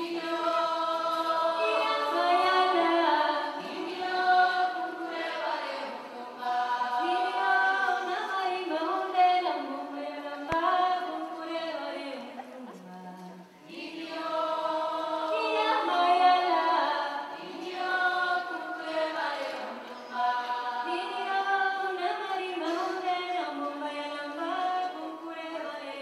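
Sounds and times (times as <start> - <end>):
group singing unaccompanied: 0.0 - 12.4, 13.4 - 26.0.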